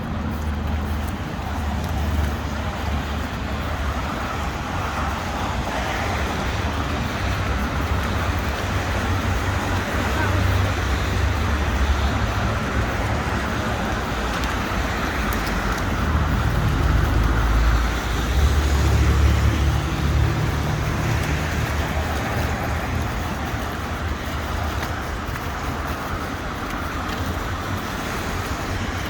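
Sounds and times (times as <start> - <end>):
low traffic rumble: 0.0 - 29.0
passing cars: 0.0 - 29.0.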